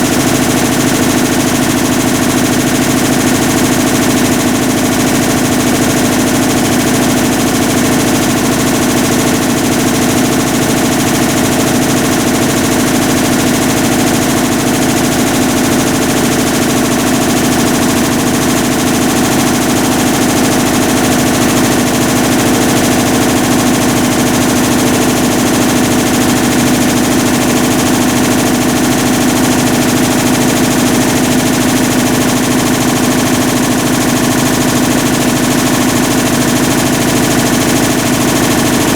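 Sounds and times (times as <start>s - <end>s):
washing machine grinding drone: 0.0s - 38.9s.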